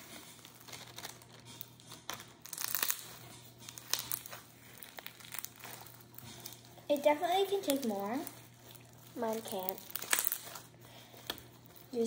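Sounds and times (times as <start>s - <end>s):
crunchy slime kneaded by hand: 0.0s - 12.0s
plastic bag crinkling: 0.0s - 12.0s.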